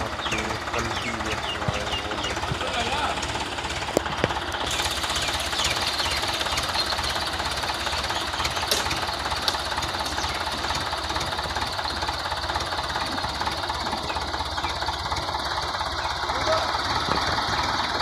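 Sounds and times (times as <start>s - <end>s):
diesel tractor engine idling: 0.0s - 18.0s
rapid knocking clatter: 0.0s - 18.0s.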